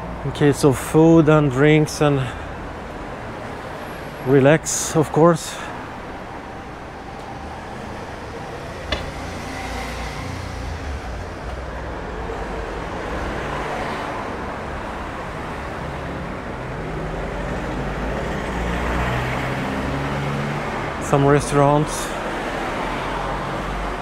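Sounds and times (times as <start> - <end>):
cars passing with low rumble: 0.0 - 24.0.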